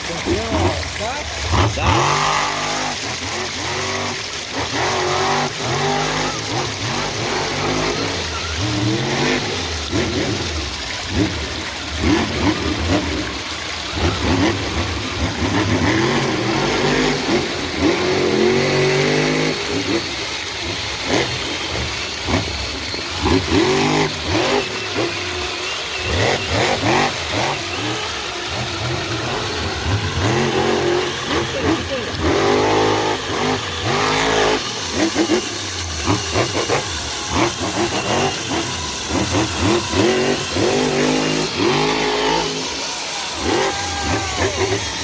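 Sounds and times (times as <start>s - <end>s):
toy car motor revving: 0.0s - 45.0s.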